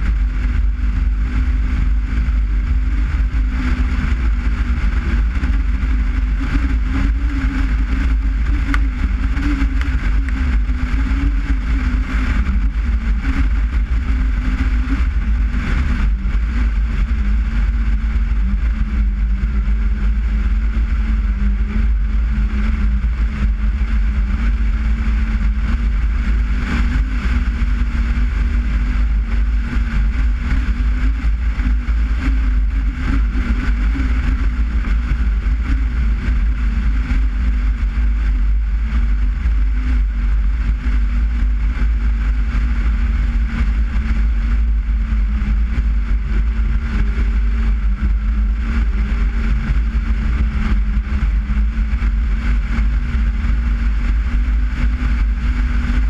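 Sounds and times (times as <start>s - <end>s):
car engine running: 0.0s - 56.0s
road and wind noise: 0.0s - 56.0s.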